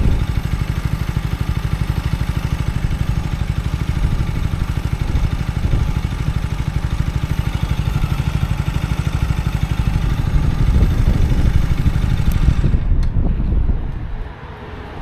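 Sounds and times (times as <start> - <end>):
motorcycle engine pulsing beat: 0.0 - 12.9.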